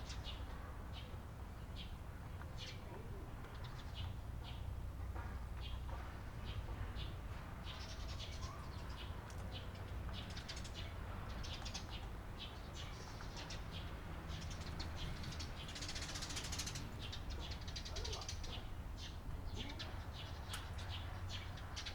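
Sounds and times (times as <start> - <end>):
sparrows chirping: 0.0 - 2.8, 5.6 - 21.9.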